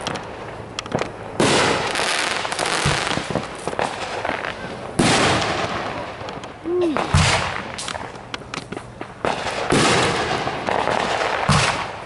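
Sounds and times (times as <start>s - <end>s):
fireworks booming: 0.0s - 12.0s
fireworks crackling and popping: 0.0s - 12.0s.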